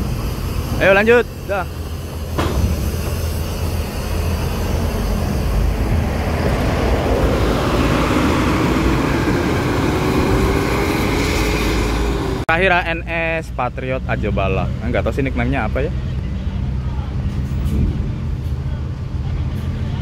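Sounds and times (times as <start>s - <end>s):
bus diesel engine rumbling: 0.0s - 20.0s.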